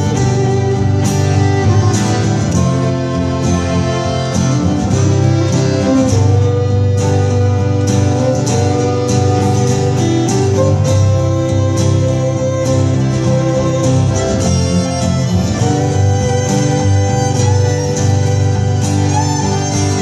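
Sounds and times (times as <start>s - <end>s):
accordion: 0.0s - 20.0s
acoustic guitar strumming: 0.0s - 20.0s
cello: 0.0s - 20.0s
fiddle: 0.0s - 20.0s.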